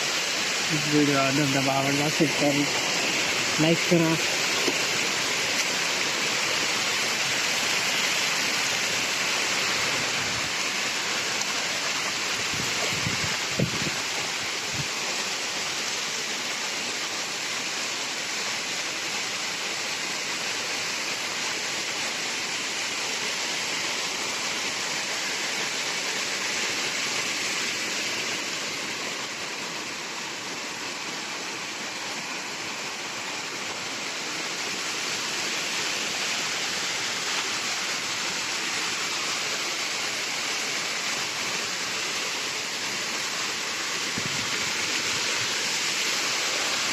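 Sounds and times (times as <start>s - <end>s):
waterfall roaring: 0.0s - 46.9s.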